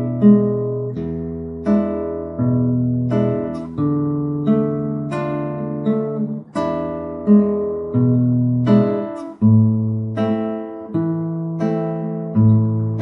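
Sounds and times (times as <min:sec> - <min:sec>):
fingerpicked classical guitar: 0:00.0 - 0:13.0.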